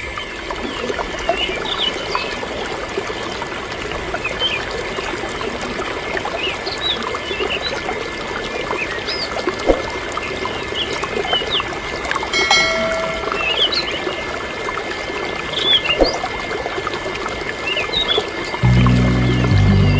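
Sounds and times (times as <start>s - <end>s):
water splashes and drips: 0.0s - 19.5s.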